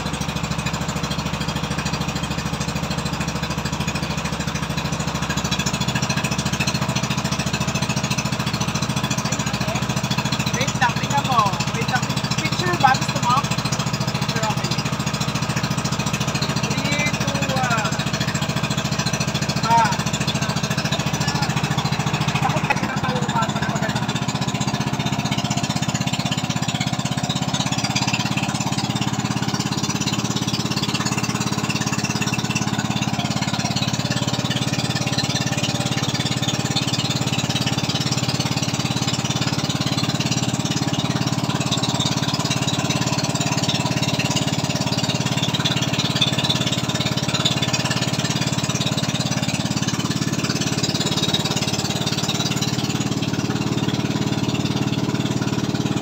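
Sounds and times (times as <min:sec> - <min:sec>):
boat engine running: 0:00.0 - 0:56.0
water rushing: 0:00.0 - 0:56.0
wind: 0:00.0 - 0:56.0.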